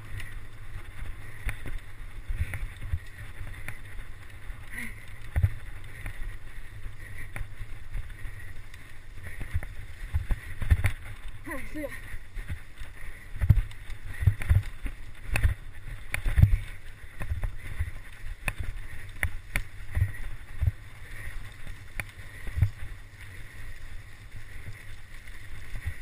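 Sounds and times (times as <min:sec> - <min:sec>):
bike rumbling over dirt trail: 0:00.0 - 0:26.0.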